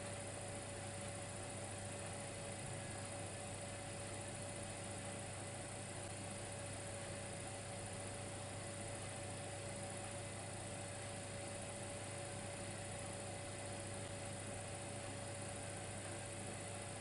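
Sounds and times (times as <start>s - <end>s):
electric fireplace hum: 0.0s - 17.0s.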